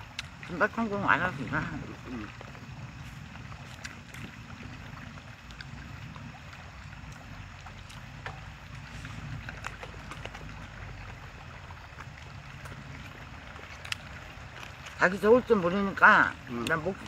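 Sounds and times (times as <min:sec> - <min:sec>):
mouth sounds of eating: 0:00.0 - 0:17.0
wind rumble on microphone: 0:00.0 - 0:17.0.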